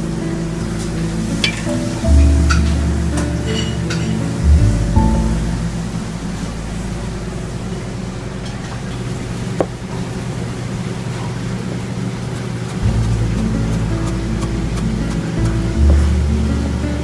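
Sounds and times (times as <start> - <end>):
commercial kitchen hum and hiss: 0.0 - 17.0.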